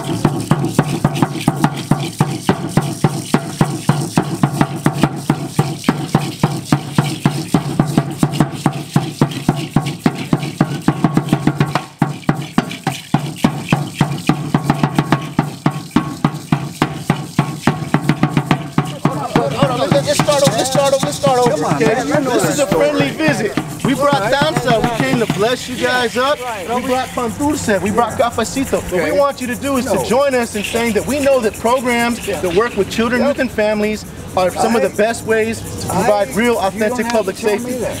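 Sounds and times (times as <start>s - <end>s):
wooden drum beaten with sticks: 0.0s - 35.3s, 35.9s - 38.0s.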